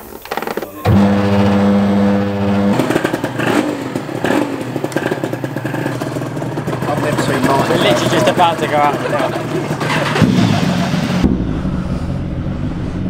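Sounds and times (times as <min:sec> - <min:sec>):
two-stroke engine running: 0:00.9 - 0:12.6.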